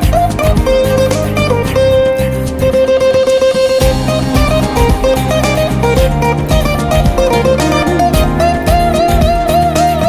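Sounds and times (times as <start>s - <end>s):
background music melody: 0.0s - 10.0s.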